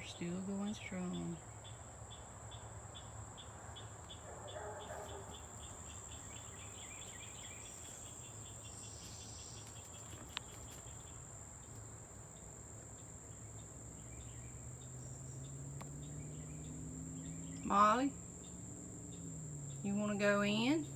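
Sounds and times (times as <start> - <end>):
crickets trilling: 0.0 - 20.9
pulsing cricket chirp: 0.0 - 20.9.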